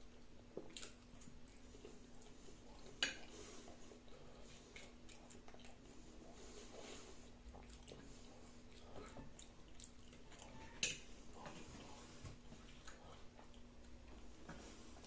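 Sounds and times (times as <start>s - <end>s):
faint chewing: 0.0s - 15.0s.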